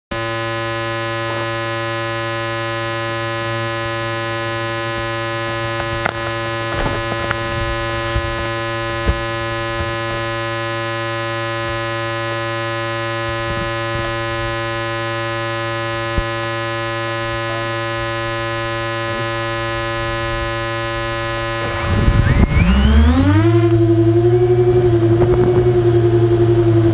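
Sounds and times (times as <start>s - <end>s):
electrical hum: 0.1s - 26.9s.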